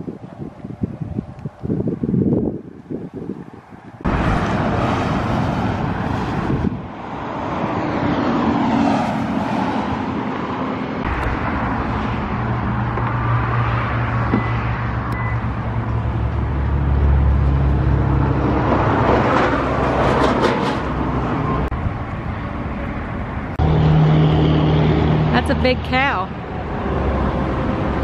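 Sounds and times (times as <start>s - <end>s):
vehicle passing: 4.0s - 28.0s.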